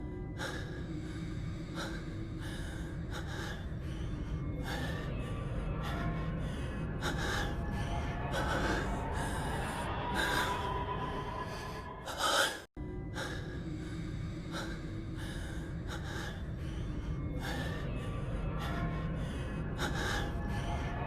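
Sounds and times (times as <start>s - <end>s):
man breathing heavily: 0.0s - 21.0s.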